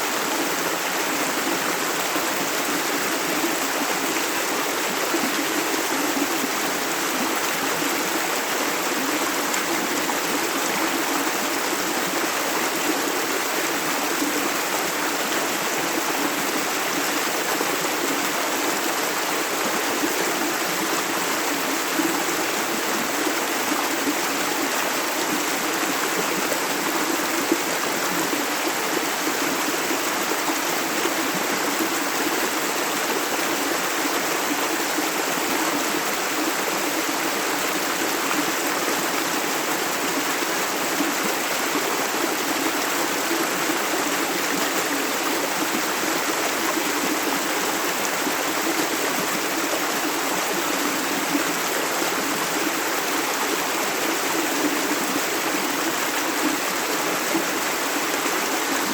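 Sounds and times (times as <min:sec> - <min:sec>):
river water over stones: 0:00.0 - 0:58.9.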